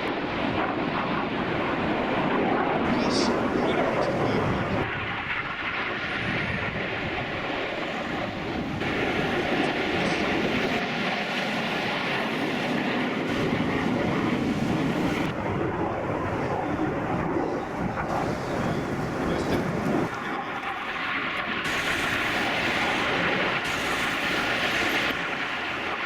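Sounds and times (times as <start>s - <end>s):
aircraft engine rushing din: 0.0s - 26.0s.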